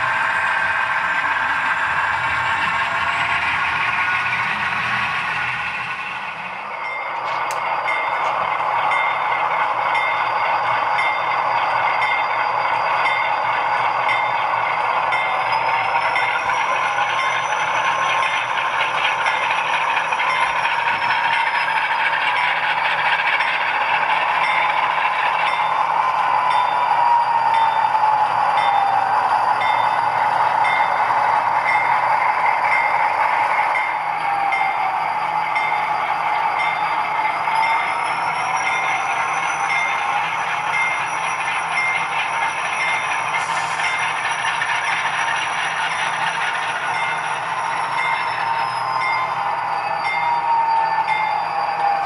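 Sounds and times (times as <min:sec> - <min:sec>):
model locomotive engine sound: 0:00.0 - 0:52.0.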